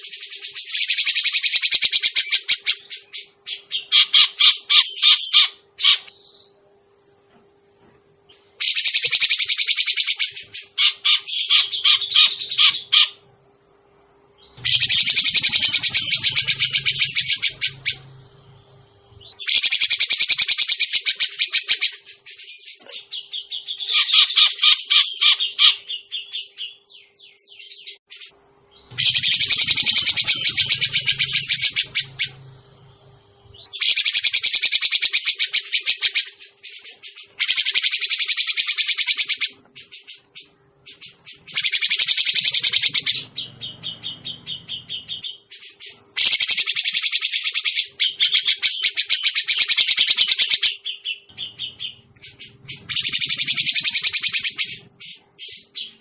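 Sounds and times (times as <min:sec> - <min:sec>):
bird chattering calls: 0:00.0 - 0:06.1, 0:08.6 - 0:13.3, 0:14.4 - 0:26.6, 0:28.1 - 0:40.3, 0:40.9 - 0:56.0.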